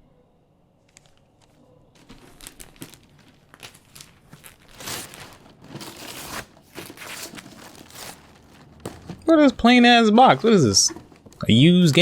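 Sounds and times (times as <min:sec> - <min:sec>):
paper crumpling and tearing: 0:00.9 - 0:12.0.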